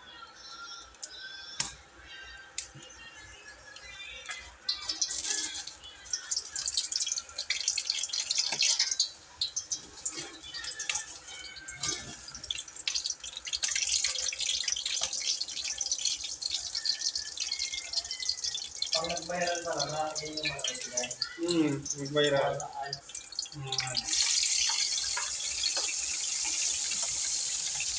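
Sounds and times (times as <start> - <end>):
hot liquid crackling in a pan: 3.8 - 27.9.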